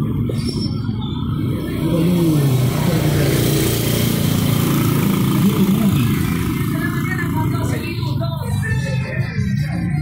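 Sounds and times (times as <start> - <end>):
small motorcycle engine passing: 0.1 - 9.2.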